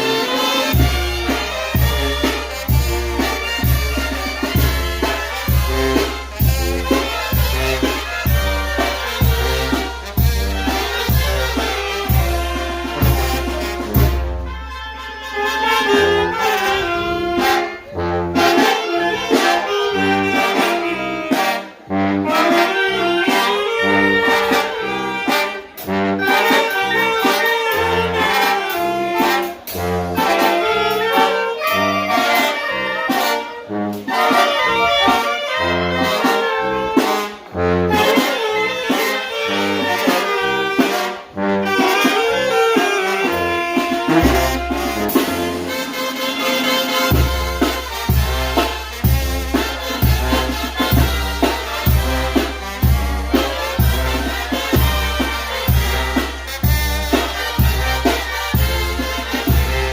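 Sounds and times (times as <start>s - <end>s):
saxophones: 0.0s - 59.9s
trombones: 0.0s - 59.9s
trumpets: 0.0s - 59.9s.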